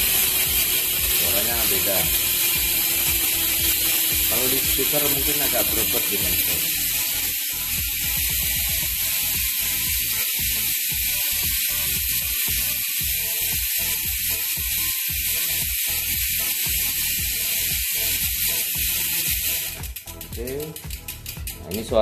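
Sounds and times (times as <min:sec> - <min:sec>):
bicycle freehub buzzing: 0:00.0 - 0:22.0.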